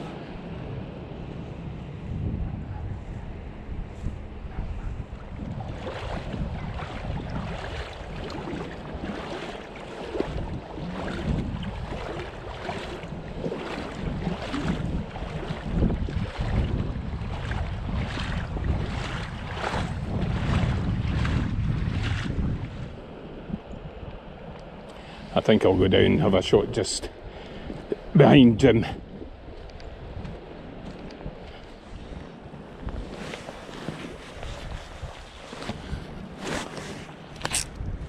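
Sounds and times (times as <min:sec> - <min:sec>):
wind rumbling on microphone: 0:00.0 - 0:38.0
water sloshing from wading steps: 0:04.6 - 0:26.4, 0:27.1 - 0:28.2, 0:29.0 - 0:37.8.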